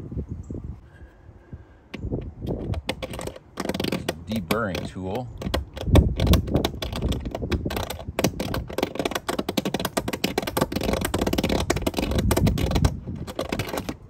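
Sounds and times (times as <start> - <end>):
deburring tool scraping sheet metal: 2.0 - 14.0.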